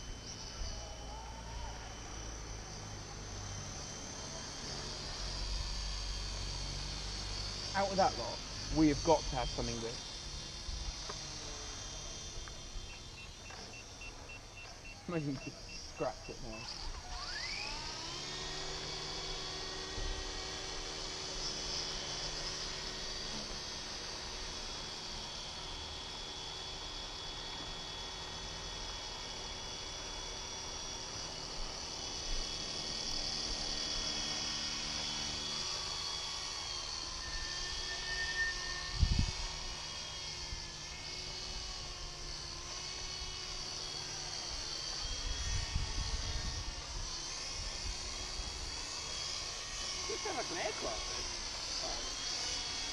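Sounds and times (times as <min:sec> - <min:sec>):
toy helicopter motor whining: 0:00.0 - 0:52.9.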